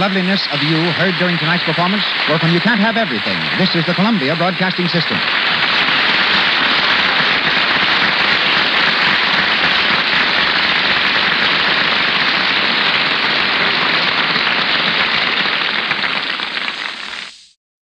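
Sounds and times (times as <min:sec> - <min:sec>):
crackling hiss of old recording: 0:00.0 - 0:17.6.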